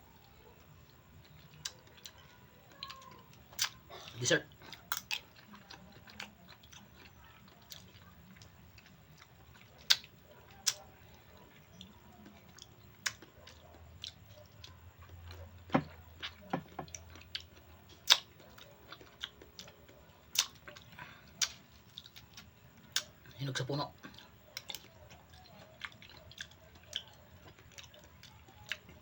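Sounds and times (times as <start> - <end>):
eating clicks and smacks: 0.8 - 3.8, 4.5 - 29.0.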